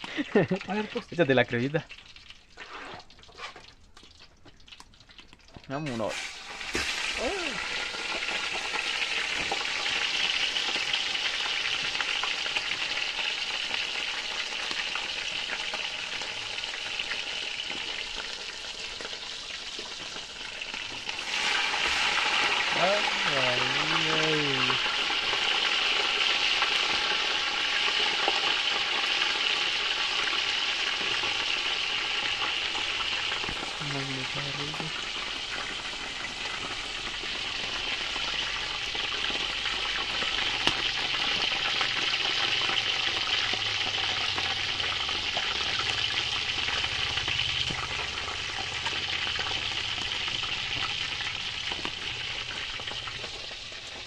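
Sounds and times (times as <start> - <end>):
fish sizzling in hot oil: 0.0 - 54.0.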